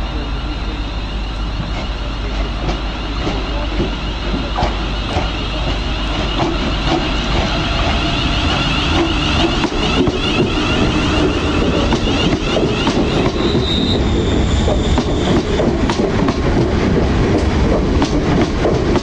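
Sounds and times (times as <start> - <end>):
electric train whine: 0.0 - 19.0
train wheels clicking over rail joints: 1.6 - 19.0.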